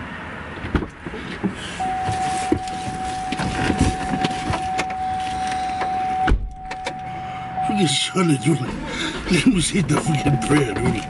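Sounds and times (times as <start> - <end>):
car electronic warning tone: 1.8 - 11.0.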